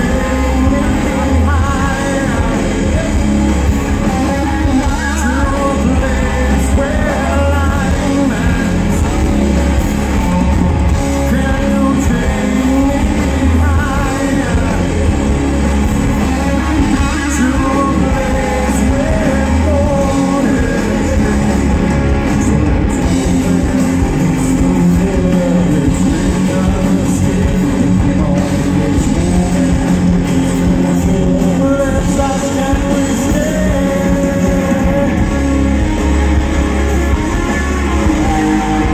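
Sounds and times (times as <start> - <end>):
live rock band playing: 0.0 - 38.9
man singing: 0.0 - 38.9.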